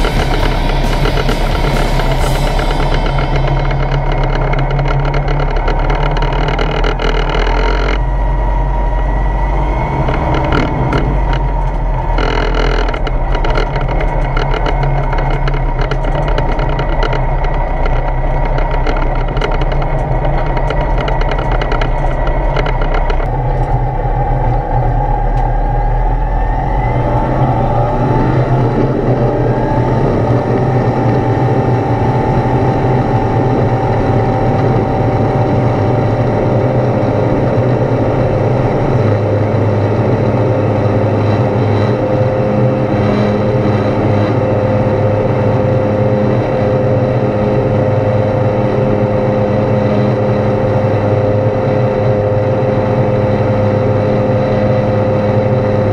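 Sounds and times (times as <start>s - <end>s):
light aircraft engine and propeller: 0.0s - 55.9s.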